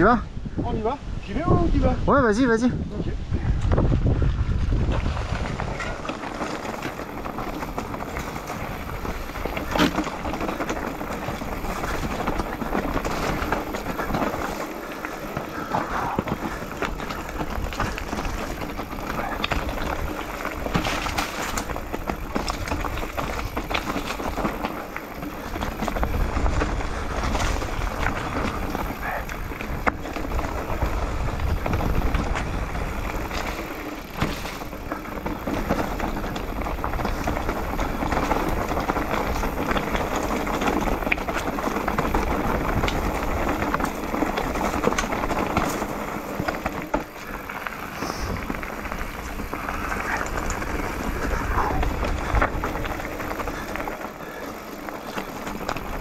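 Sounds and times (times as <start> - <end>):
bike rattling: 3.4 - 56.0
bike knocking on bumps: 4.5 - 56.0
tyres crunching over stones: 4.7 - 56.0.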